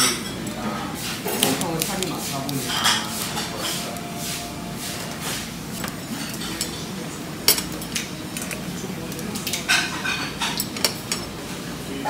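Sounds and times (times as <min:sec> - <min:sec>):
cutlery clinking against dishes: 0:00.0 - 0:04.4, 0:05.1 - 0:11.7.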